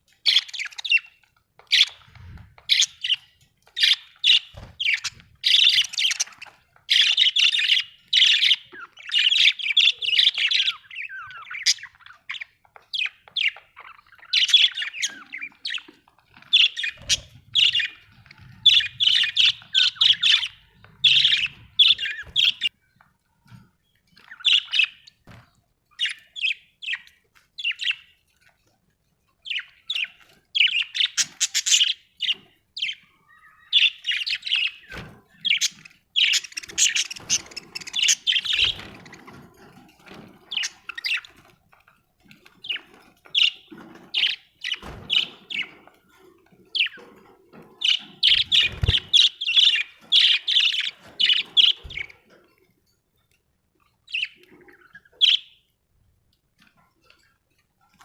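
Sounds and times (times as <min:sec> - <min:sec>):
budgerigars chirping and warbling: 0:00.1 - 0:28.7, 0:29.3 - 0:52.7, 0:53.8 - 0:55.8.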